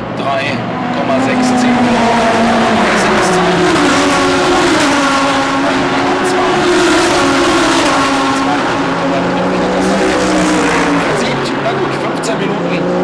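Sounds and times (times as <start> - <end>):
race car engines at speed: 0.0 - 13.0.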